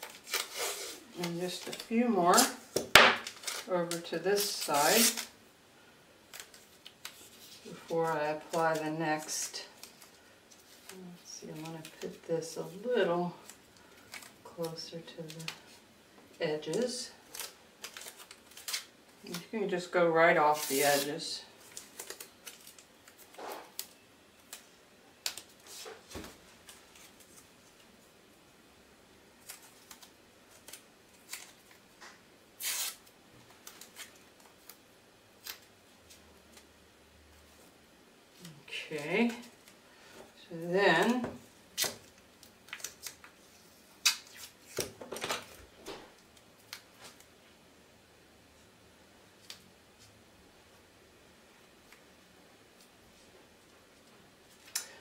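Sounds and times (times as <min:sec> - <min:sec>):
tape rustling and crinkling: 0:00.0 - 0:05.4, 0:06.2 - 0:19.5, 0:20.5 - 0:28.1, 0:29.4 - 0:47.6.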